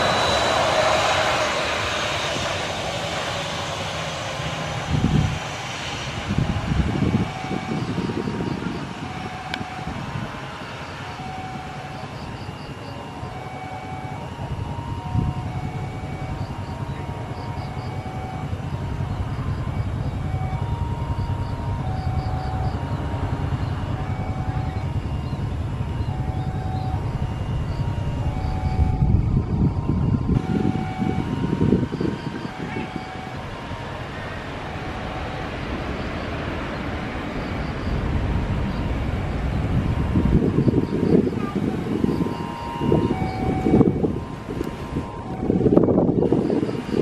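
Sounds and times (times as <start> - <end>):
jet engines rumbling: 0.0 - 47.0.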